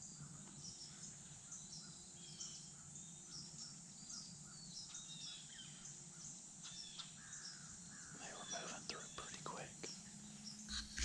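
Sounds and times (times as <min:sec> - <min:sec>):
small birds calling: 0:00.0 - 0:11.0.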